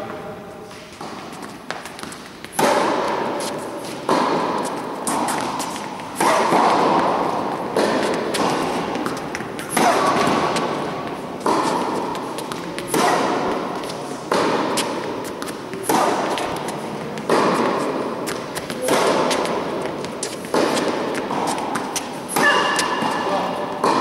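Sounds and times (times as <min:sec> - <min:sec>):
racket hitting tennis ball: 0:00.0 - 0:24.0
tennis ball bouncing: 0:00.1 - 0:24.0.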